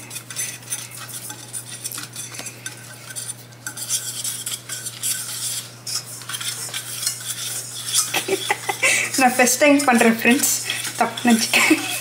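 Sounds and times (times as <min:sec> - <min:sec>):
whisk scraping a metal saucepan: 0:00.0 - 0:12.0.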